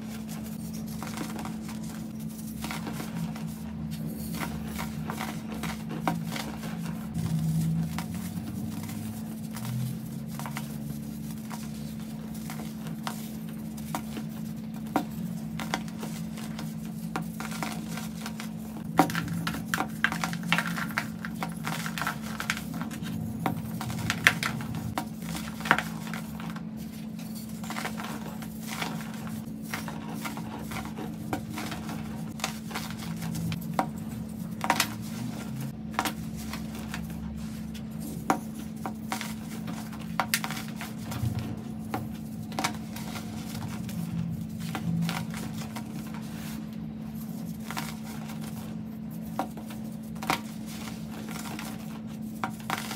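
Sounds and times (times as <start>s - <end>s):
dry crunching and crackling: 0.0s - 52.9s.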